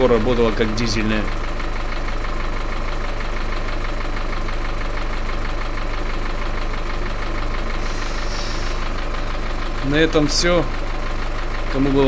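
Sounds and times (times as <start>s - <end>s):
car engine idling: 0.0s - 12.0s
valve lifter ticking: 0.0s - 12.0s.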